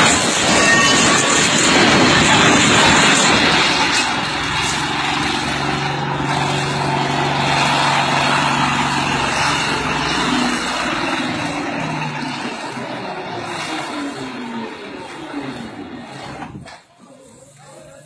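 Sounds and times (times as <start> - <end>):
large diesel engine running under load: 0.0 - 18.0.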